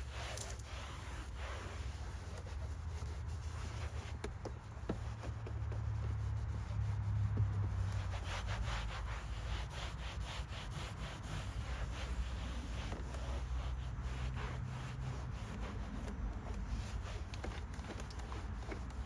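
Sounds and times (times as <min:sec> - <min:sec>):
cloth rubbing a surface: 0:00.0 - 0:19.0
low rumble of road traffic: 0:00.0 - 0:19.0.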